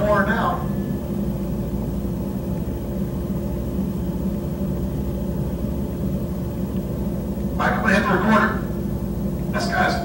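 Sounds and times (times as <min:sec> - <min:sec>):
constant hum-like tone: 0:00.0 - 0:10.0
helicopter engine and rotor drone: 0:00.0 - 0:10.0.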